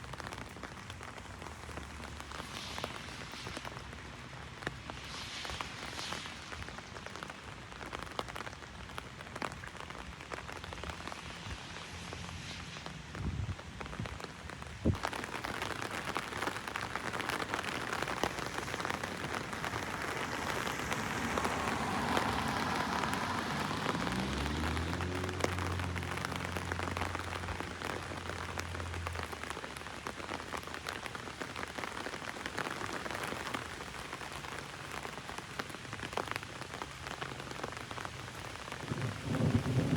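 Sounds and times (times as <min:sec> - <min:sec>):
heavy rain on an umbrella: 0:00.0 - 0:39.9
raindrops ticking on canopy: 0:00.0 - 0:39.9.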